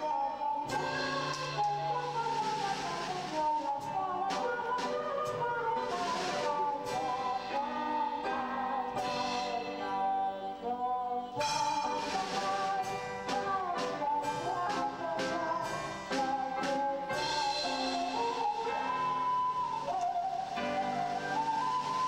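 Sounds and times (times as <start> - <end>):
small band playing a waltz: 0.0 - 22.0.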